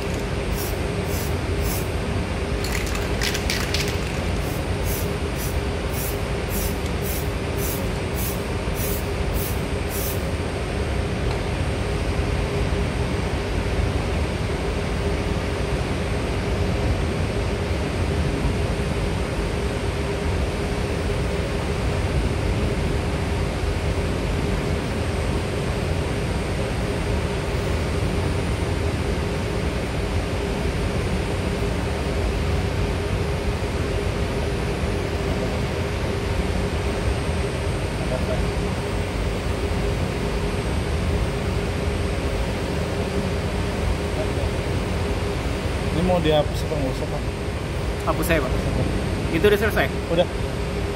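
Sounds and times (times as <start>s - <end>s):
machinery drone: 0.0s - 50.9s.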